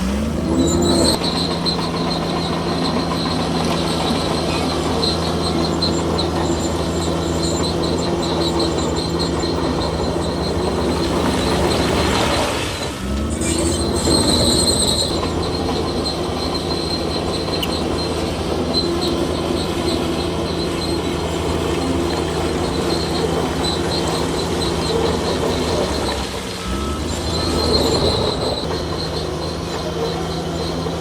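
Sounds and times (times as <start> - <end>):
bulldozer diesel engine running: 0.0 - 31.0
crawler tracks squealing and clanking: 0.0 - 31.0.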